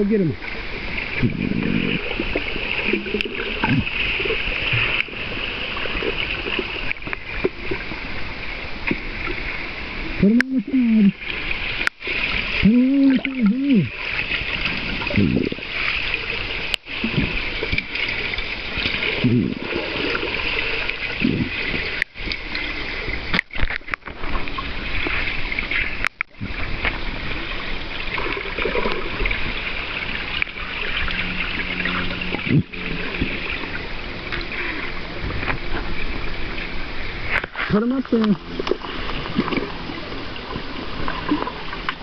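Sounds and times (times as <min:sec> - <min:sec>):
underwater rushing and bubbling: 0:00.0 - 0:42.0.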